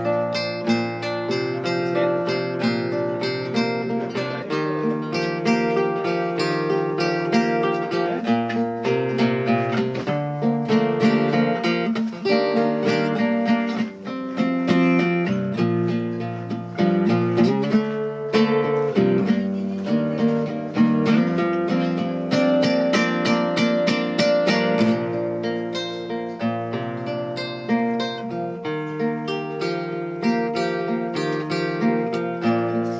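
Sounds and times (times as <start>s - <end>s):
classical guitar playing: 0.0s - 32.9s.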